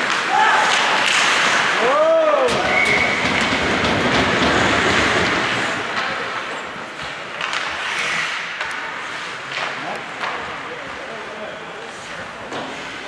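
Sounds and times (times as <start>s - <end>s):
clicks of sticks and puck: 0.0s - 10.7s, 12.4s - 13.0s
skates scraping ice: 0.0s - 13.0s.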